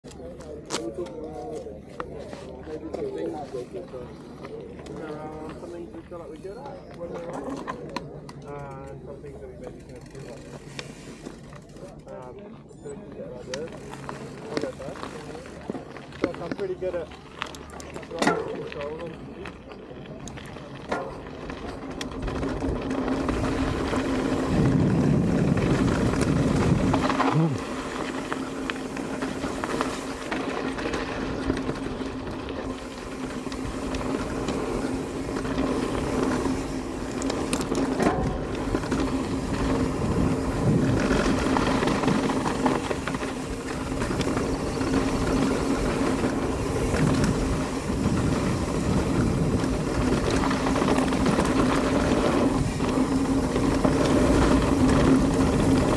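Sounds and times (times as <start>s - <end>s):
bike tyres rattling over dirt: 0.0s - 55.9s.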